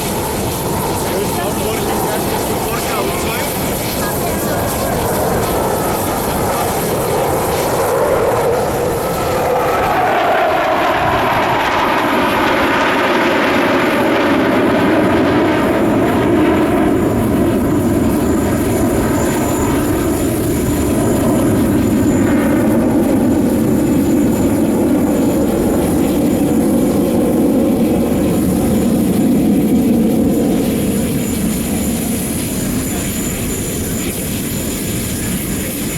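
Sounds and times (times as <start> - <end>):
jet engines roaring overhead: 0.0 - 35.9.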